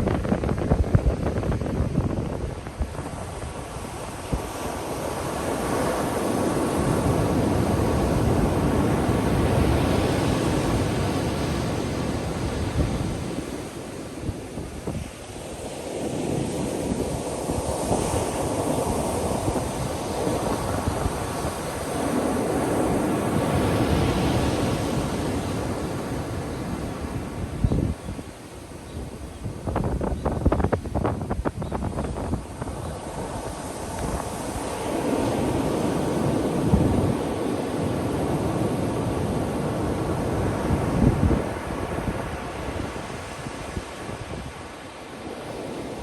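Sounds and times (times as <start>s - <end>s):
wind buffeting microphone: 0.0s - 46.0s
ocean waves breaking: 2.5s - 30.1s, 32.0s - 46.0s.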